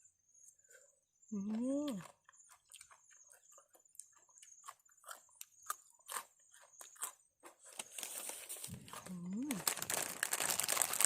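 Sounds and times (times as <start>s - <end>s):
person chewing crunchy food: 0.6s - 11.0s.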